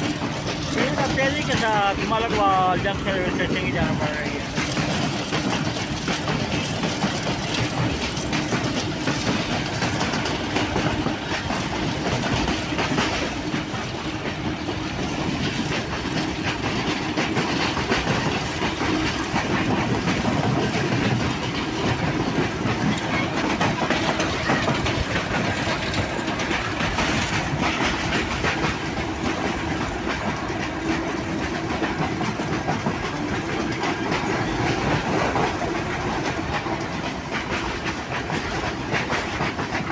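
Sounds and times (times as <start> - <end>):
train rumbling: 0.0 - 39.9
wheels clattering on rails: 0.0 - 39.9.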